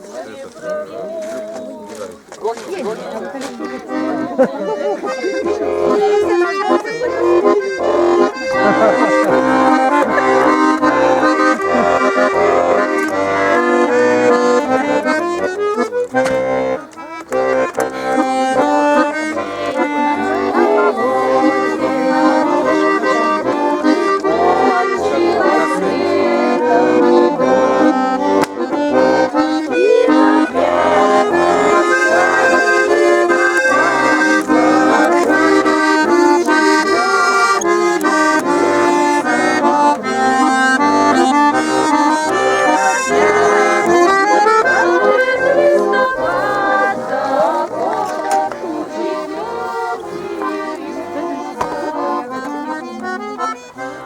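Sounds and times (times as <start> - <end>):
accordion playing folk tune: 0.0 - 54.0.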